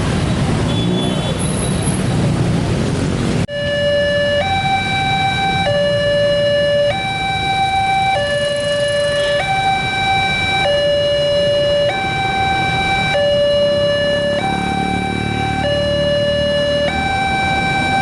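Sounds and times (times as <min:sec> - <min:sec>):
level crossing two-tone alarm: 0:03.5 - 0:18.0.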